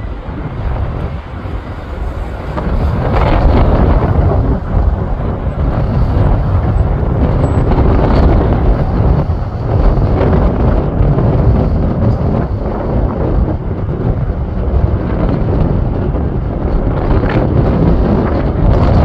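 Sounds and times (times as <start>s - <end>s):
jet engine from aircraft overhead: 0.0s - 19.0s
wind buffeting on microphone: 0.0s - 19.0s.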